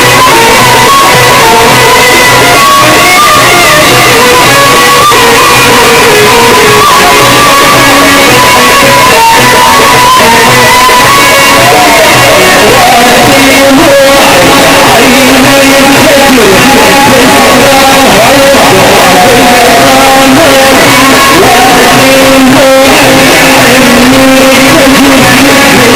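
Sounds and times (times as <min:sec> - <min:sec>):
crowd shouting: 0:00.0 - 0:25.9
sustained melodic line: 0:00.0 - 0:25.9.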